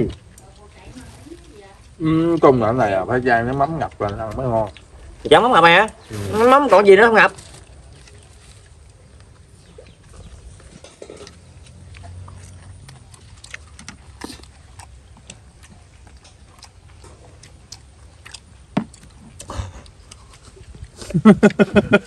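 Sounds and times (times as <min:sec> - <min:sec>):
person chewing: 0:00.0 - 0:21.6.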